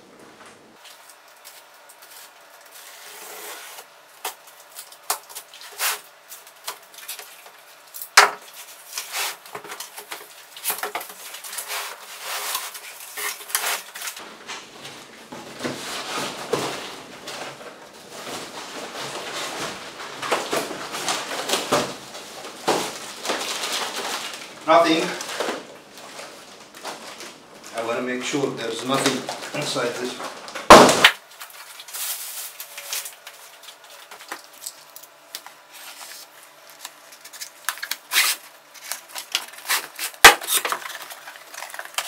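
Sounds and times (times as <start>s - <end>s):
packaging rustling and scraping: 0.8s - 42.0s.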